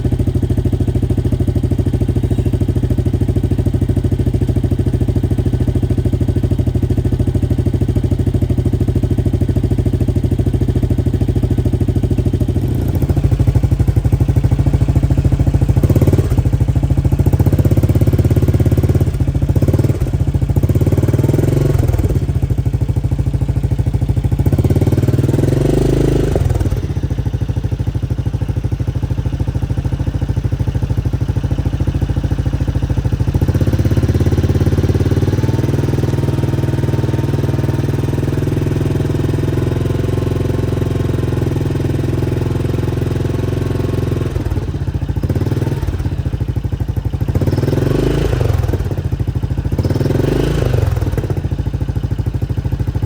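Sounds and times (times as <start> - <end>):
quad bike engine idling and revving: 0.0 - 53.0.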